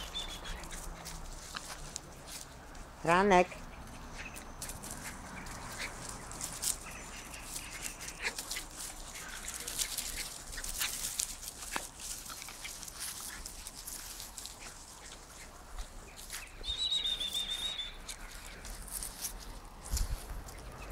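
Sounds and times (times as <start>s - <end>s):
dog noises: 0.0s - 2.5s, 3.5s - 19.6s
rustling in leaves: 0.0s - 20.9s.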